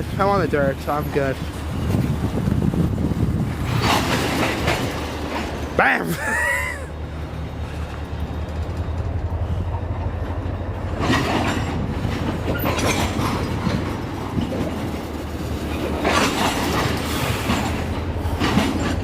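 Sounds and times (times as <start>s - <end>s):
diesel locomotive drone: 0.0s - 19.0s
train wheels clattering over rail joints: 0.0s - 19.0s.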